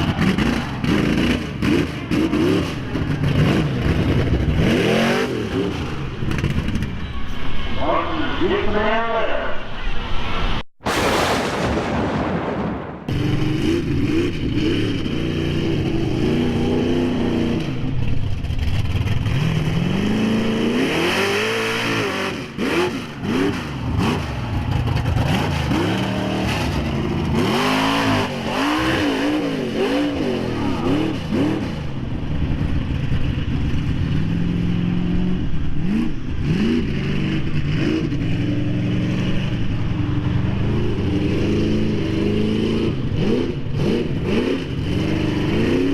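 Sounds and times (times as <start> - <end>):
truck engine revving hard: 0.0 - 6.8, 13.1 - 45.9.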